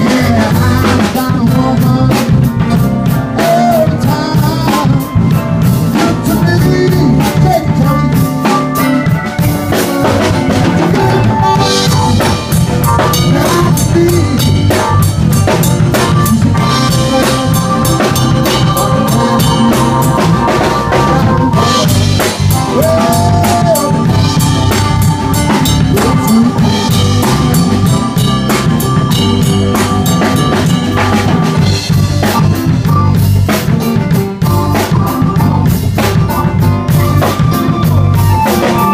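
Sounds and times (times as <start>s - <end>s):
bass drum and snare beat: 0.0s - 38.9s
blues band playing: 0.0s - 38.9s.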